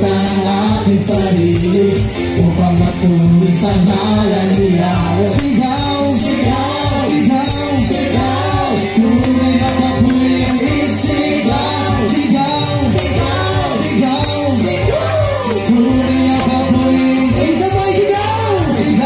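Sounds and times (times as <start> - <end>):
tambourine jingles: 0.0 - 19.0
worship song with singing: 0.0 - 19.0.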